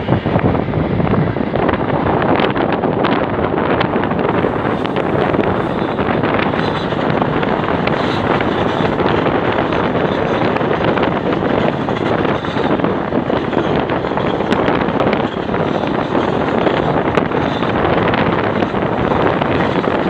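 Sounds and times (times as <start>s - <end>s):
train carriage on rails: 0.0s - 20.0s
wind buffeting microphone: 0.0s - 20.0s.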